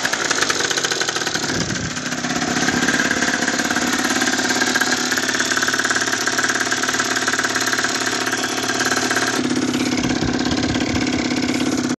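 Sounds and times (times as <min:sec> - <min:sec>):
two-stroke motorcycle idling: 0:00.0 - 0:12.0.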